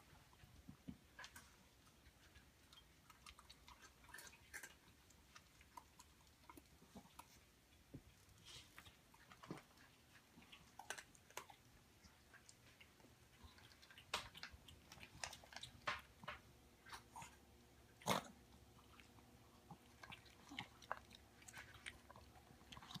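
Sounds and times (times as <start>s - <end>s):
dog crunching food: 2.0s - 7.4s, 8.8s - 23.0s.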